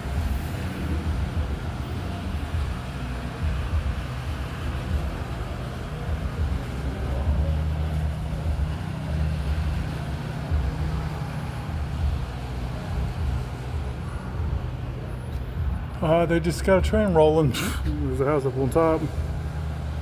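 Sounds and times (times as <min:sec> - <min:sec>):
low mechanical hum and rumble: 0:00.0 - 0:20.0.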